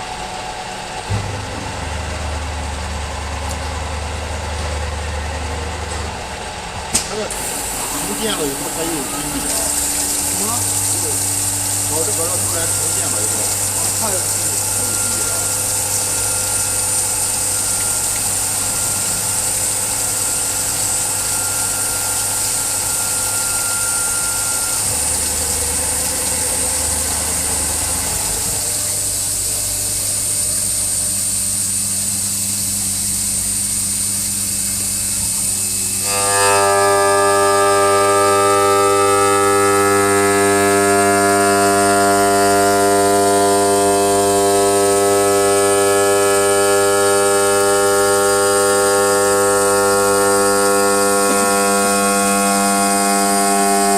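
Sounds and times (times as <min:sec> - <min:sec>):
loud multi-tone whine: 0:00.0 - 0:53.9
machine motors humming: 0:00.0 - 0:53.9.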